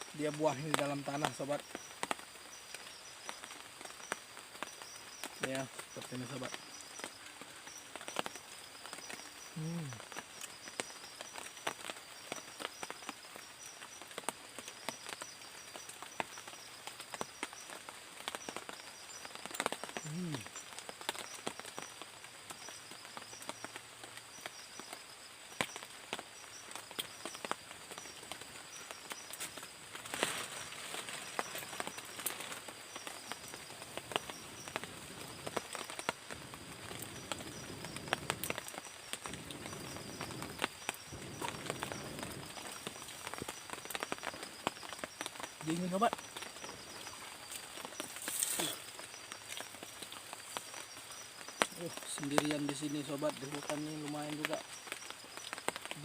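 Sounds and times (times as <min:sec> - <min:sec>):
insects trilling: 0:00.0 - 0:56.0
sharp ticks and pops: 0:00.0 - 0:56.0.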